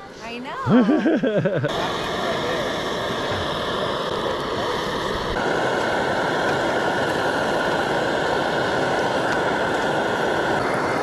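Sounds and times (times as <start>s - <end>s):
steady roaring hum: 0.0s - 11.0s.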